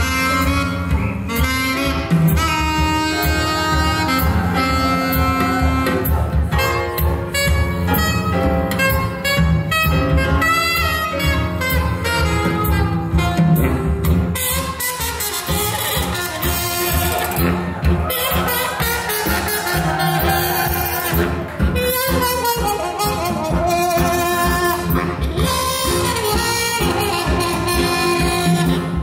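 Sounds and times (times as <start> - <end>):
jazz music: 0.0 - 29.0.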